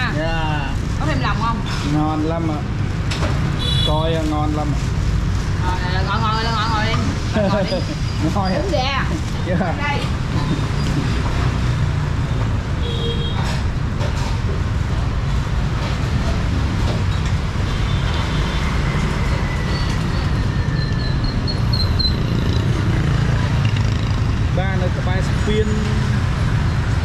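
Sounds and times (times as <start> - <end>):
motorbikes and cars passing: 0.0 - 27.0.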